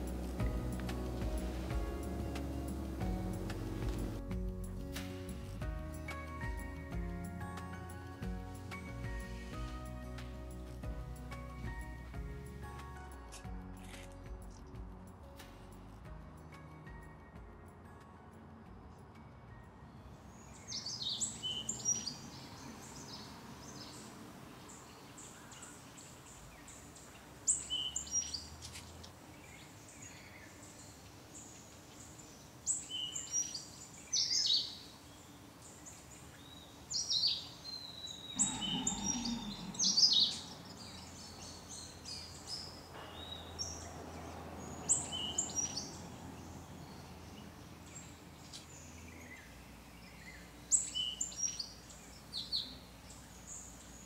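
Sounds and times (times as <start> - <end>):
songbirds chirping: 0.0 - 17.7, 18.5 - 54.0.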